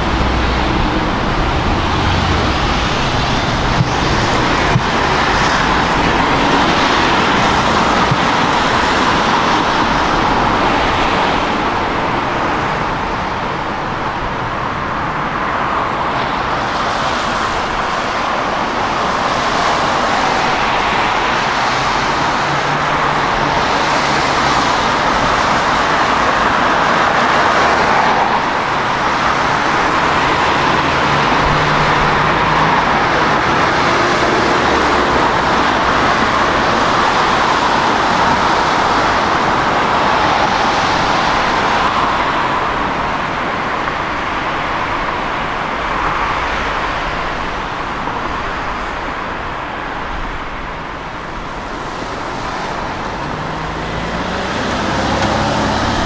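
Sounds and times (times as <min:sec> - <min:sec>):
metro train rumbling in tunnel: 0:00.0 - 0:56.0.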